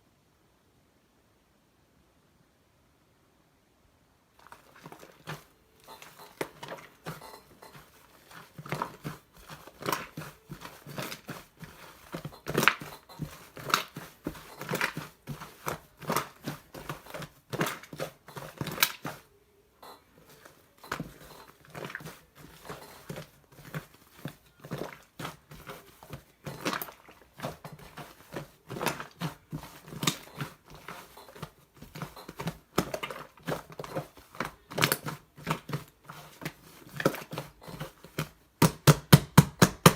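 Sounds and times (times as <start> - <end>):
slime squishing by hand: 4.4 - 39.9.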